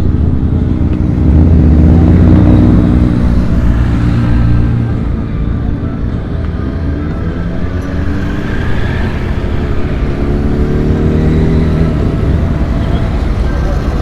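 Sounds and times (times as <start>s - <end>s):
motorcycle engine accelerating: 0.0s - 14.0s
motorcycle engines running: 0.0s - 14.0s.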